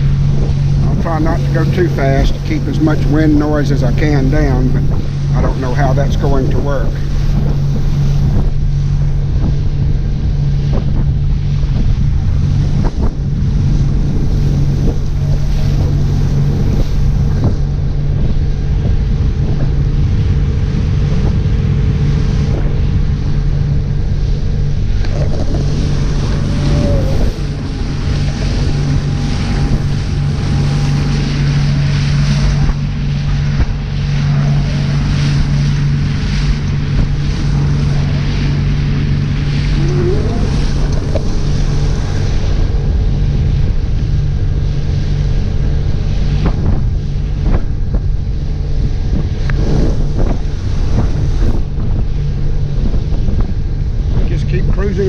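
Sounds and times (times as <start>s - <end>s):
motorboat engine drone: 0.0s - 55.0s
water rushing past hull: 0.0s - 55.0s
wind buffeting microphone: 0.0s - 55.0s.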